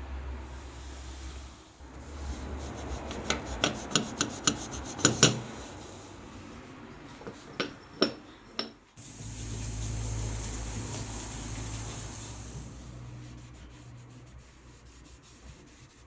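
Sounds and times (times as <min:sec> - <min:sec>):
scrubbing a stove: 0:01.8 - 0:16.0.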